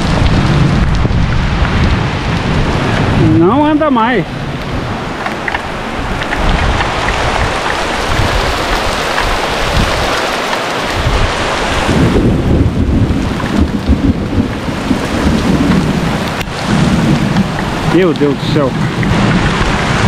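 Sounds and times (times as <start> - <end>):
heavy rain: 0.0 - 20.0
thunder rumbling: 0.0 - 20.0
wind noise on microphone: 0.0 - 20.0.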